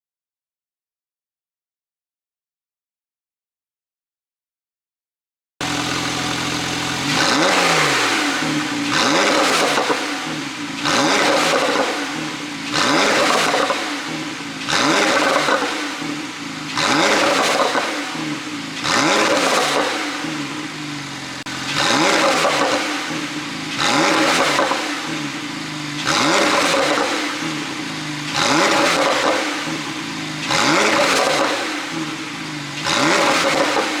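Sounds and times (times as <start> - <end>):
car engine revving from idle: 5.6 - 34.0.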